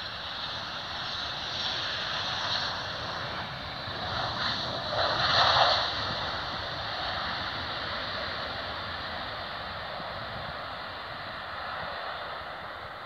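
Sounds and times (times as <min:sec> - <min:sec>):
distant jet engine: 0:00.0 - 0:13.0.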